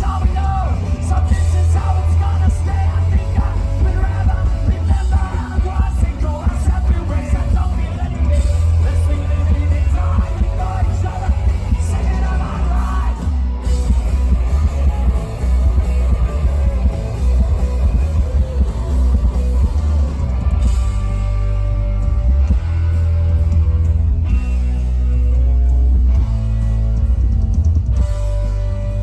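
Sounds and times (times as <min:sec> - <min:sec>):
punk rock band playing: 0:00.0 - 0:29.0.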